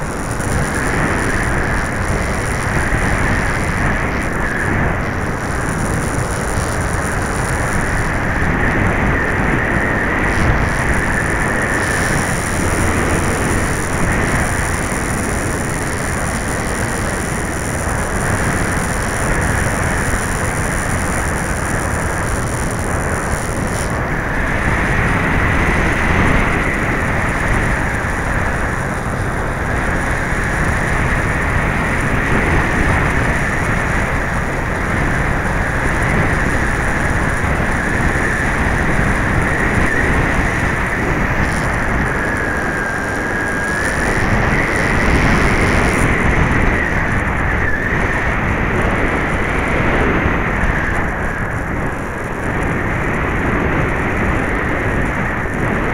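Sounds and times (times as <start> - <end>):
model plane motor whine: 0.0 - 55.9
wind noise on microphone: 0.0 - 55.9.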